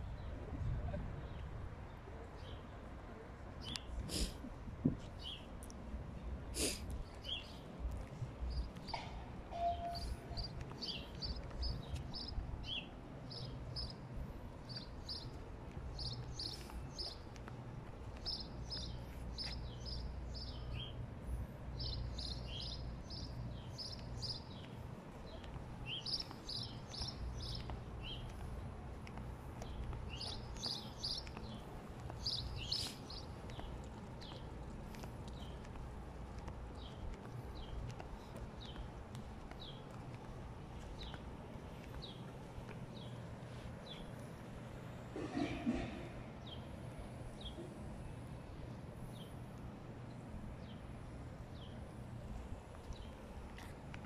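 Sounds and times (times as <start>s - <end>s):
low outdoor rumble: 0.0s - 54.0s
small birds chirping: 3.6s - 4.4s, 5.0s - 45.1s, 46.3s - 54.0s.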